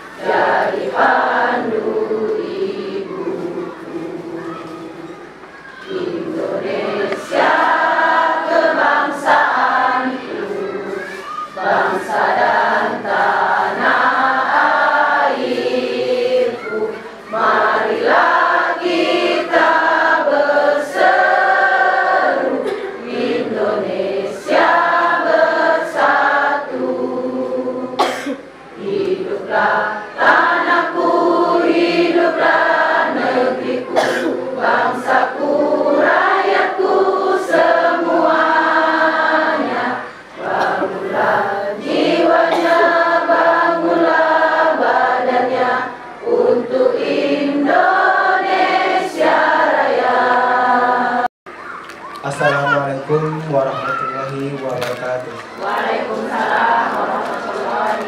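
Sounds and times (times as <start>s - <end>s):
group chant-like singing: 0.0s - 51.3s, 52.2s - 58.0s.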